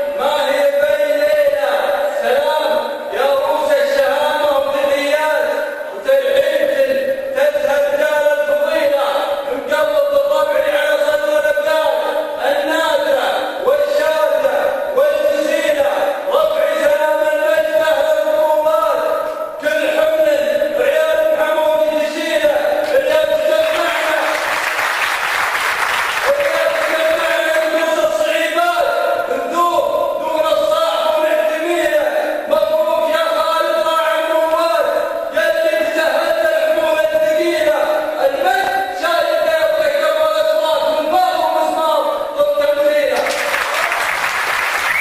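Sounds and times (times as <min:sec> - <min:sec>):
man chanting: 0:00.0 - 0:24.6, 0:26.2 - 0:44.0.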